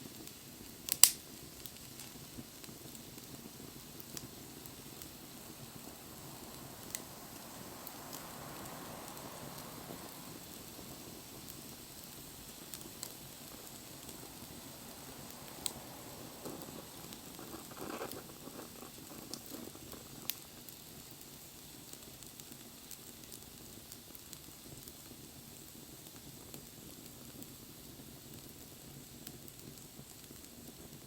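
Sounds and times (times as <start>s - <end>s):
burning wood popping: 0.0s - 25.1s
wood fire crackling: 0.0s - 31.0s.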